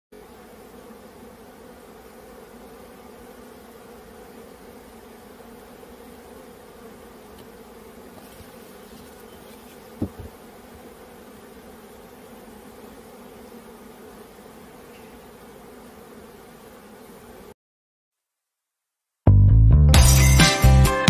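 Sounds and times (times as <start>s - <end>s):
bees buzzing: 0.1s - 17.6s.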